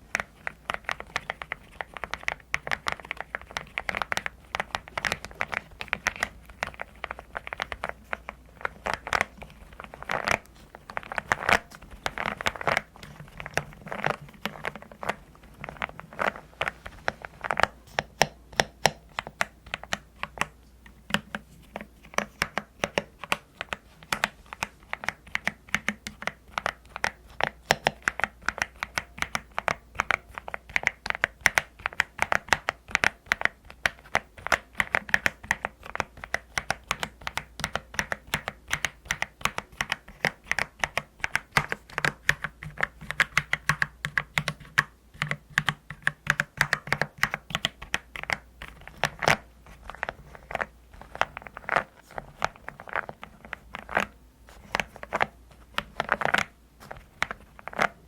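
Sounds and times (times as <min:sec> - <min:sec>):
mechanical keyboard typing: 0:00.1 - 0:16.8, 0:22.1 - 0:58.0.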